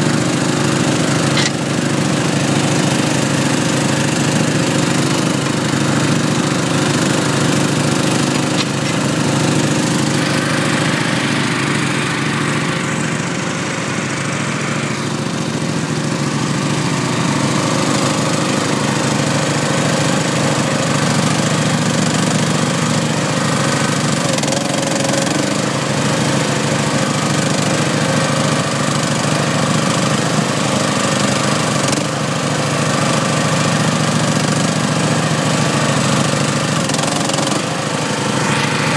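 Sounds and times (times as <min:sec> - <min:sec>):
mower engine running: 0:00.0 - 0:38.9.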